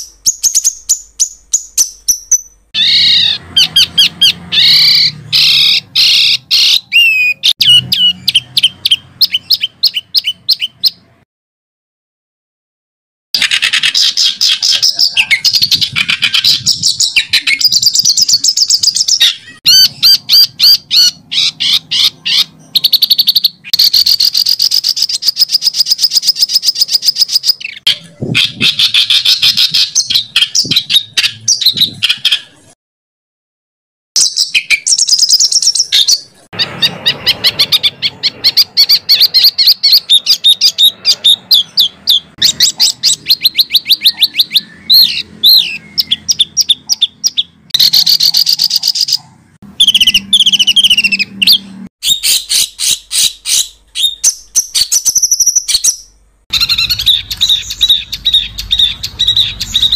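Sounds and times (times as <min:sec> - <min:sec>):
songbird trilling: 0:00.0 - 0:11.1, 0:13.4 - 0:32.7, 0:34.2 - 0:59.9.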